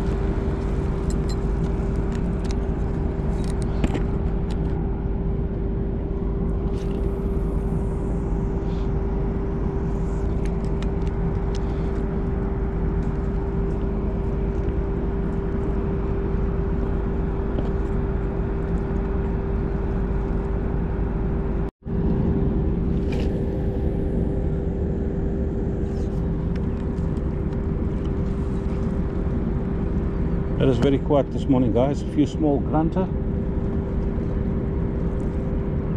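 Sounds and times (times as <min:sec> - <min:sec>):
ship machinery humming: 0:00.0 - 0:35.9.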